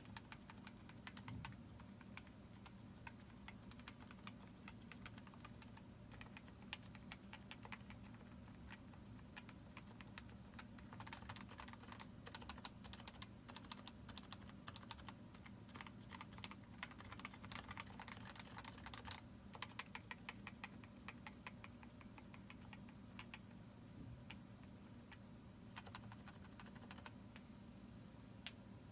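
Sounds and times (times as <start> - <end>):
keyboard typing: 0.0 - 23.6, 25.0 - 27.2.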